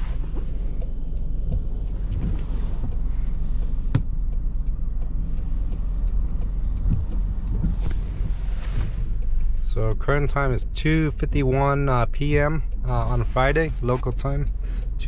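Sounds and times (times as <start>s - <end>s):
low rumble inside car cabin: 0.0s - 15.0s.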